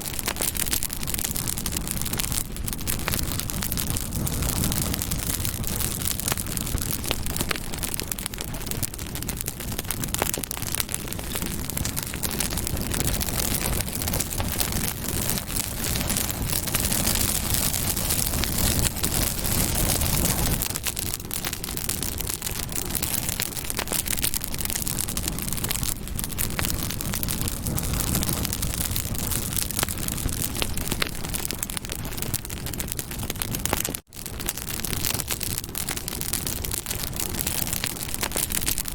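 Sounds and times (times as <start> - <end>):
burning wood crackling and popping: 0.0 - 38.9
low rushing roar of fire: 0.0 - 38.9.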